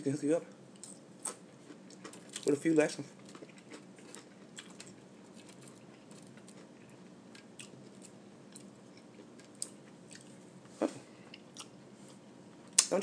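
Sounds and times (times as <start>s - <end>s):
person chewing food: 0.5s - 12.9s.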